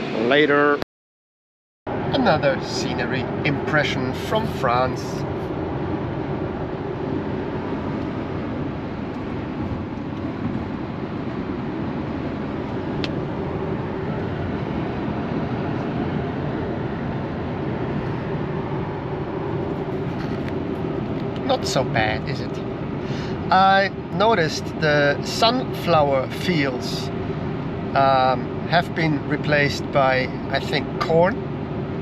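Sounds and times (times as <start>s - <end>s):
wind rush: 1.9s - 29.2s.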